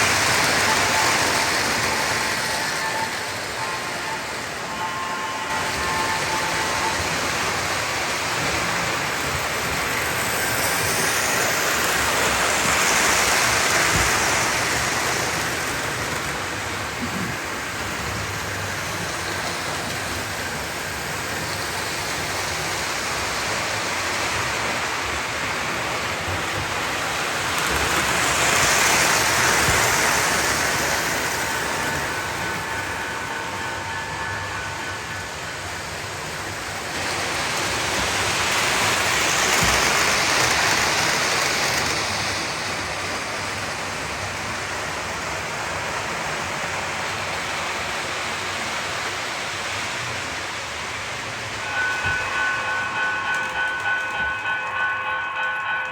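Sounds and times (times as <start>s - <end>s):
toy train rolling on track: 0.0s - 55.9s.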